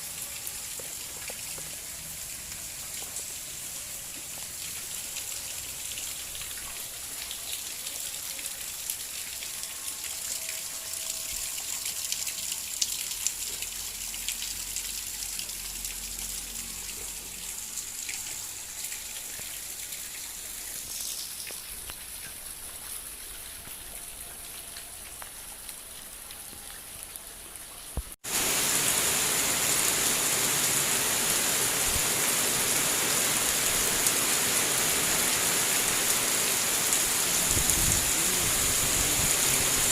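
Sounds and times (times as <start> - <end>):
heavy rain: 0.0 - 39.9
rain pattering: 0.0 - 39.9.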